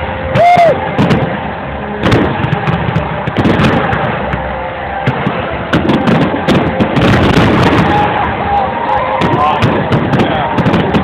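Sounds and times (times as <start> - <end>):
continuous rumble: 0.0 - 11.0
fireworks bursting: 0.0 - 11.0.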